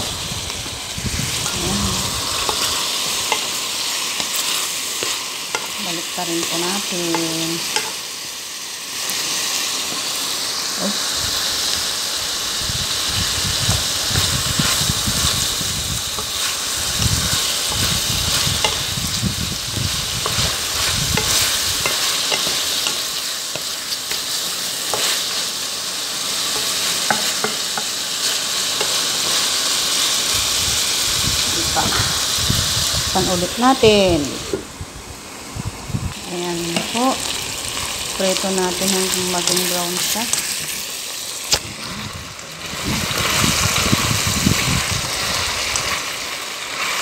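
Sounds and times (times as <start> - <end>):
chicken sizzling in oil: 0.0 - 34.5, 36.1 - 47.0.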